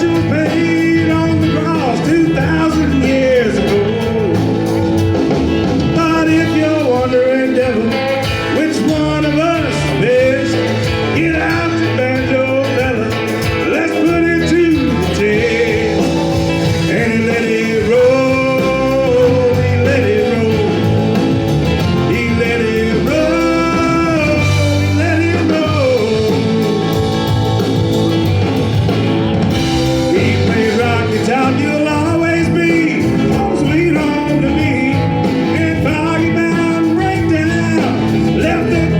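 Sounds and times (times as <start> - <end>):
person singing: 0.0 - 28.1, 29.5 - 38.9
live country rock band: 0.0 - 38.9.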